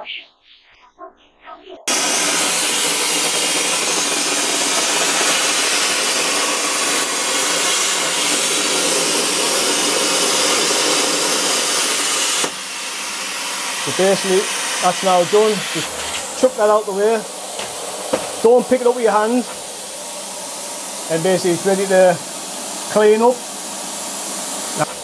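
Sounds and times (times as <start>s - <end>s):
plasma torch hissing: 1.9s - 25.0s.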